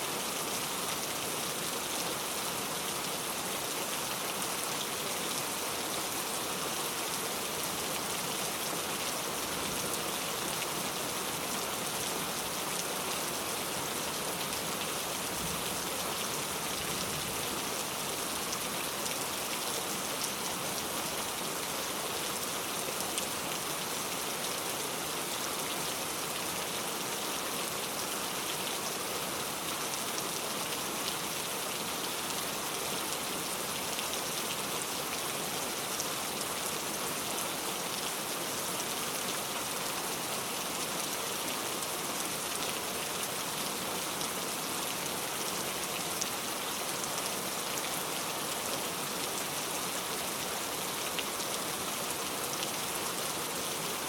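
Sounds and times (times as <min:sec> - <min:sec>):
heavy rain on a road: 0:00.1 - 0:54.0.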